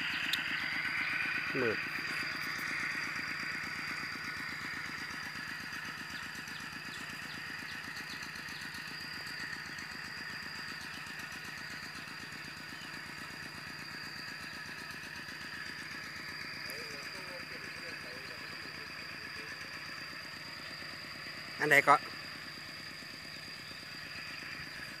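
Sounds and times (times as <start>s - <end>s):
small engine chugging: 0.0s - 25.0s.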